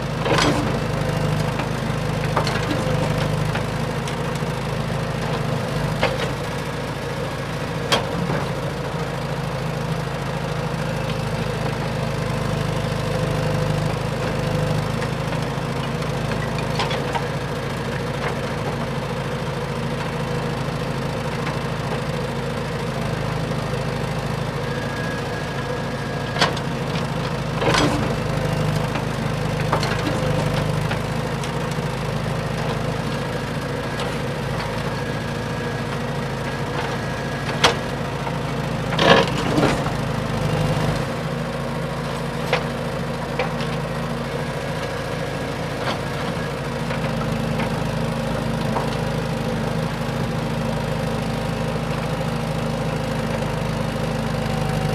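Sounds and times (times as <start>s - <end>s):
excavator running hum: 0.0s - 54.9s.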